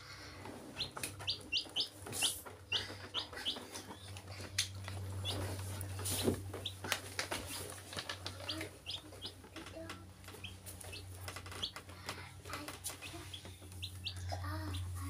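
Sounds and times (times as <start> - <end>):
chicks peeping: 0.2 - 15.0.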